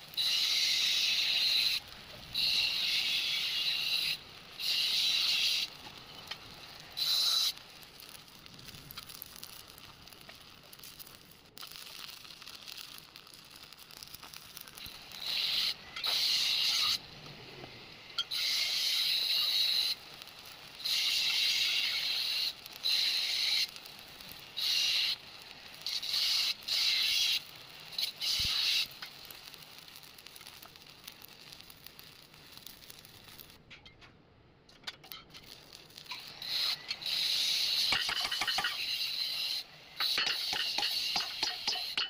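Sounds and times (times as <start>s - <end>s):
electric arc welding hiss: 0.0s - 33.6s, 35.1s - 42.0s.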